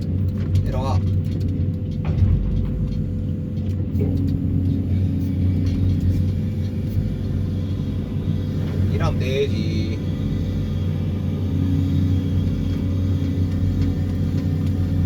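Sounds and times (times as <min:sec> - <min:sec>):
excavator engine droning: 0:00.0 - 0:15.0.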